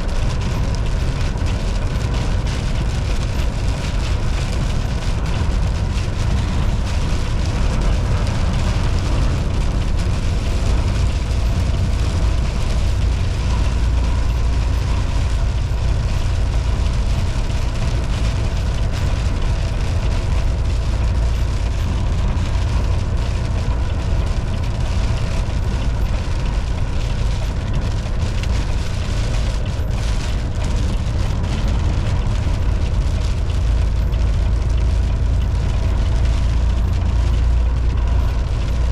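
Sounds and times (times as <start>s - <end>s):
road and tyre noise: 0.0s - 38.9s
truck diesel engine rumble: 0.0s - 38.9s.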